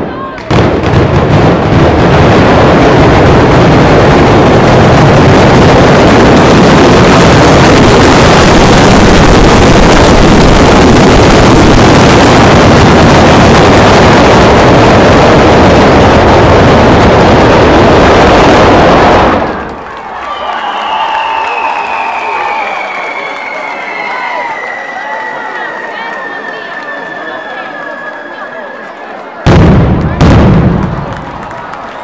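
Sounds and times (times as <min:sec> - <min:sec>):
firecrackers going off: 0:00.0 - 0:32.0.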